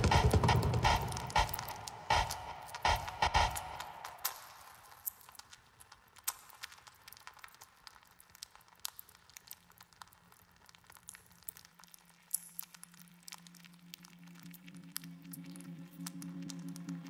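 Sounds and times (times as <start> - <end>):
faint crackles and clicks: 0.4 - 17.0.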